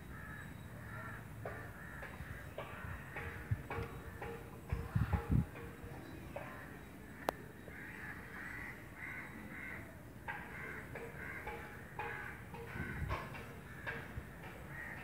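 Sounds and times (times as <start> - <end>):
birds calling harshly: 0.0 - 15.0.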